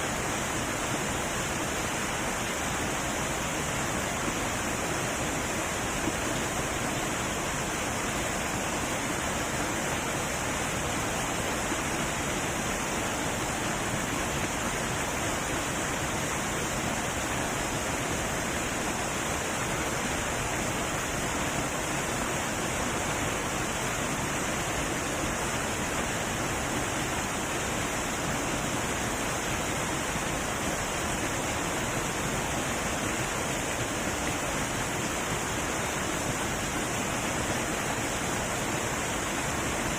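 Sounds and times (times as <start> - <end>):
heavy waterfall rushing: 0.0 - 39.9.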